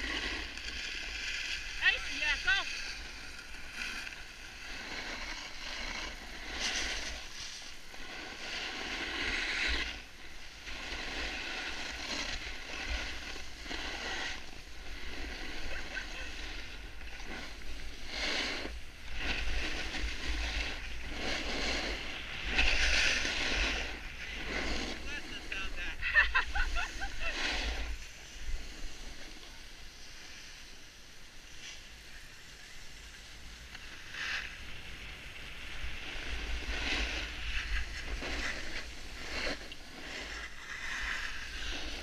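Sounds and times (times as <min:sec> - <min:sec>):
skis scraping on snow: 0:00.0 - 0:42.0.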